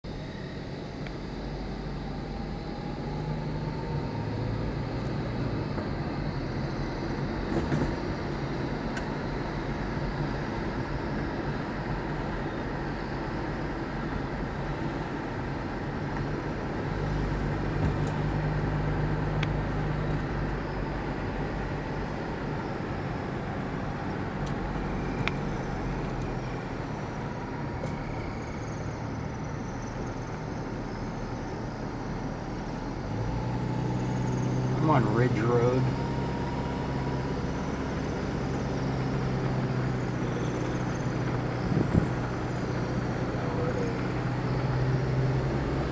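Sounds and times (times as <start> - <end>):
car engine hum: 0.0 - 45.9.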